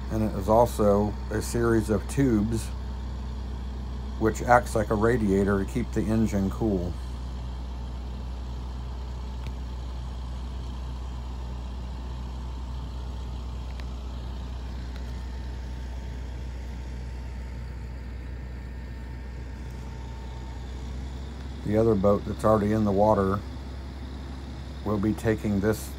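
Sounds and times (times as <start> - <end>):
diesel engine running at low revs: 0.0 - 25.9.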